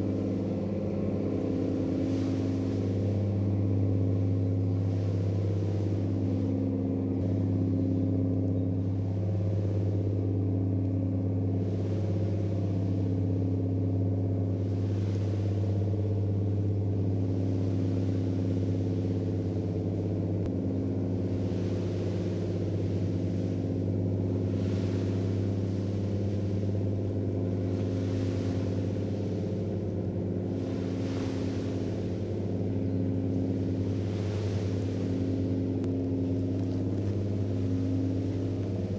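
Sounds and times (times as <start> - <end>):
ship diesel engines humming: 0.0 - 38.9.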